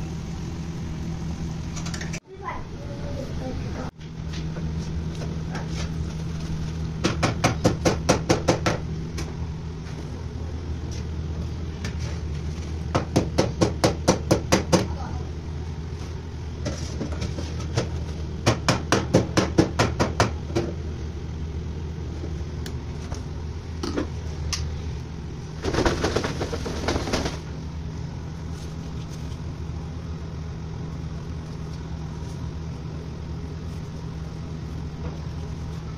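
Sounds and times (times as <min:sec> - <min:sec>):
kitchen equipment hum: 0:00.0 - 0:35.9.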